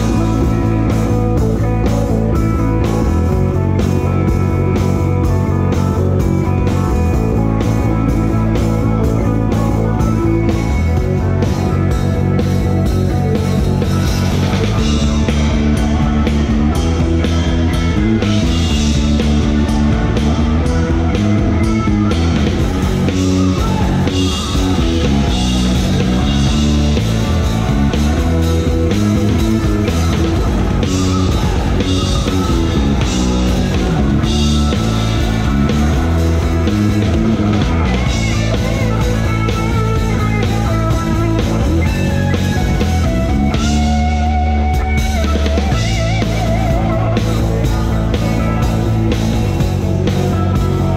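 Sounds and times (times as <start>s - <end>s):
drum kit: 0.0s - 50.9s
rock band playing live: 0.0s - 50.9s.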